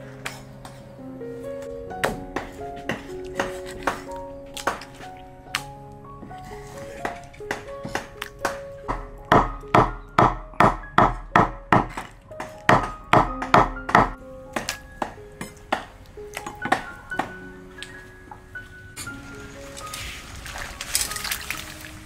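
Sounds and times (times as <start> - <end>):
background music with plucked notes: 0.0 - 22.0.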